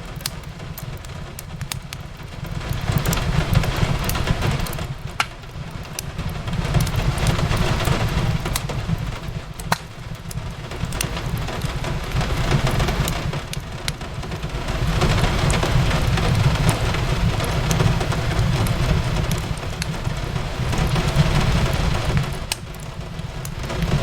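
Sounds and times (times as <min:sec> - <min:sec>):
fireplace crackling and popping: 0:00.0 - 0:24.0
rain hissing: 0:00.0 - 0:24.0.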